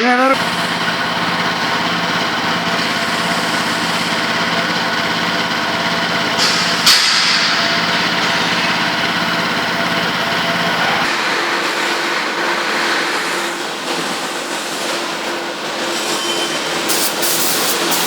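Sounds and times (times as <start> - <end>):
machine motor humming: 0.0 - 15.9.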